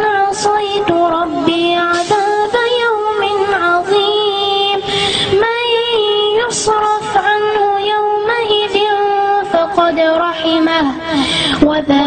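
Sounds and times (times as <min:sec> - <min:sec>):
child chanting melodically: 0:00.0 - 0:12.0.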